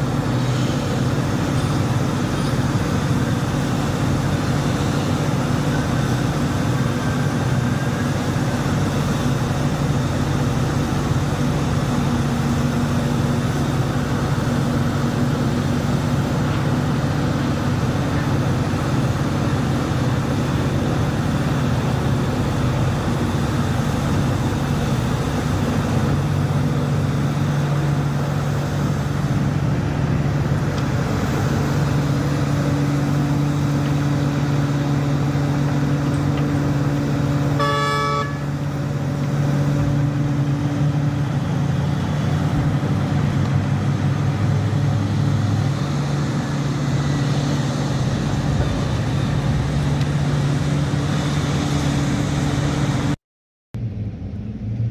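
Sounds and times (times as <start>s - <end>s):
excavator diesel engine drone: 0.0s - 53.2s, 53.8s - 54.9s.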